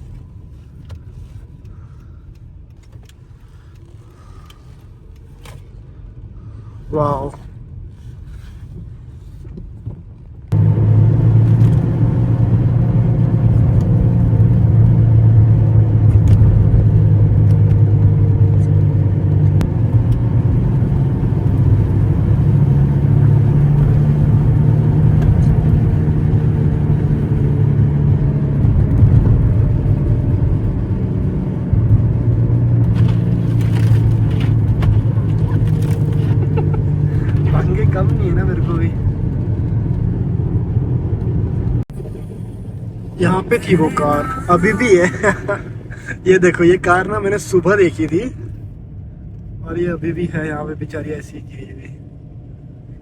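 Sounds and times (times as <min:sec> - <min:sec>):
car cabin low rumble: 0:00.0 - 0:53.0.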